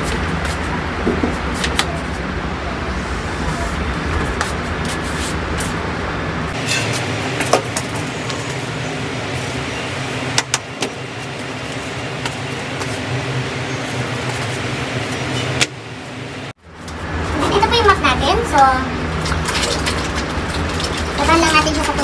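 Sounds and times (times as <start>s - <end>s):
city traffic: 0.0s - 22.0s.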